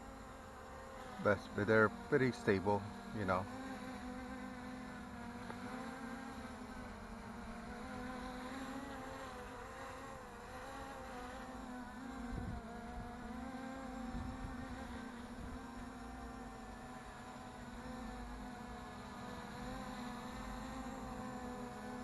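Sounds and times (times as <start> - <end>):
quadcopter propellers buzzing: 0.0 - 22.0.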